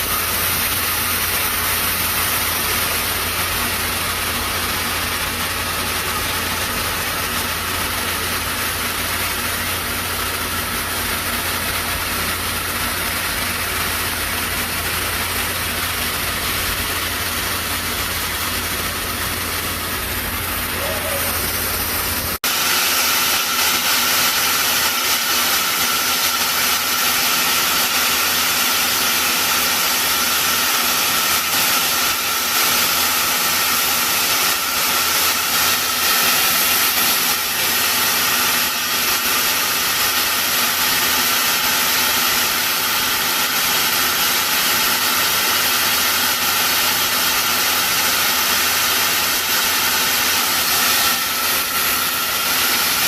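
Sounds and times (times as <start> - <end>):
laser welding machine hissing: 0.0 - 53.0.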